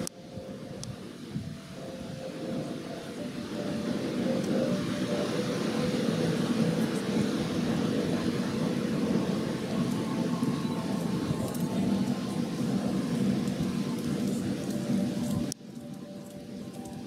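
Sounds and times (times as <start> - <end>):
faint steady hums: 0.0 - 17.0
ship engines rumbling: 0.0 - 17.0
propeller wash churning: 1.8 - 17.0.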